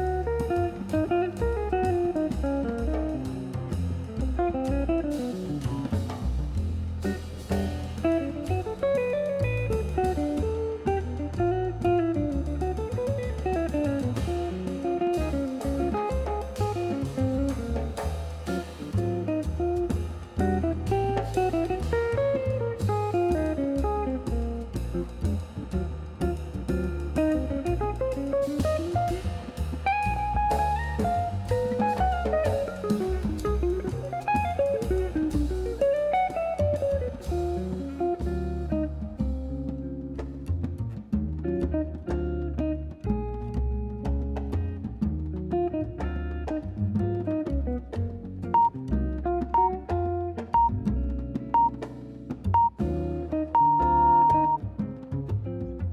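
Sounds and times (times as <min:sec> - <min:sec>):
bass: 0:00.0 - 0:55.9
drum kit: 0:00.0 - 0:55.9
upbeat plucked guitar music: 0:00.0 - 0:55.9.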